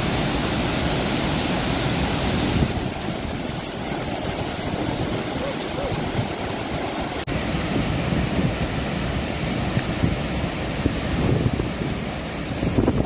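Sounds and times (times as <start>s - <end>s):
rushing floodwater: 0.0s - 13.0s
wind buffeting microphone: 1.9s - 13.0s.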